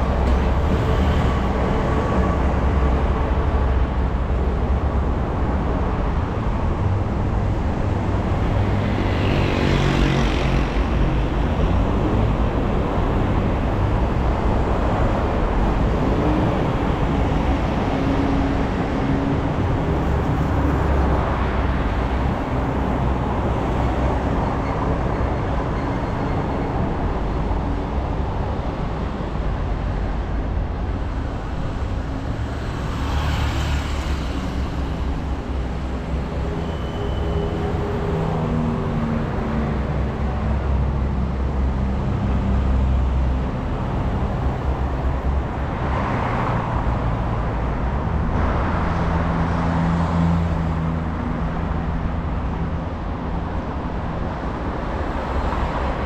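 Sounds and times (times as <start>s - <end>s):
low traffic rumble: 0.0s - 56.0s
vehicle engines passing: 0.0s - 56.0s.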